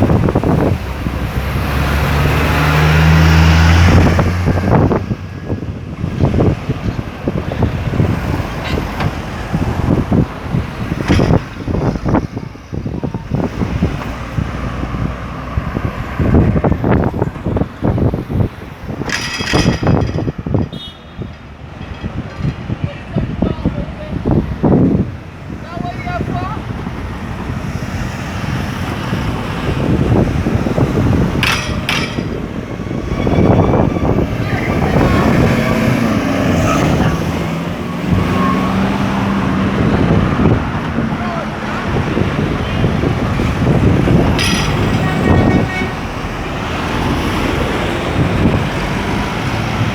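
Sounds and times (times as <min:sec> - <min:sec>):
engine humming: 0:00.0 - 0:22.8, 0:26.7 - 0:49.9
buses and cars passing: 0:00.0 - 0:49.9
traffic rumble: 0:00.0 - 0:49.9
wind buffeting microphone: 0:00.0 - 0:49.9.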